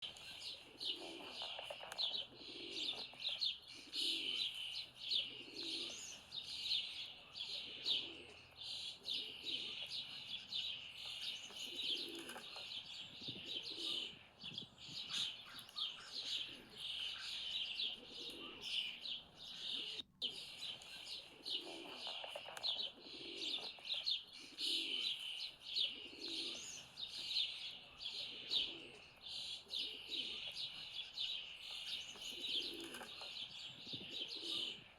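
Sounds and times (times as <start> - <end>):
pigeon cooing: 0.0 - 14.2, 15.0 - 30.8, 31.7 - 34.9
songbird chirping and singing: 0.0 - 34.9.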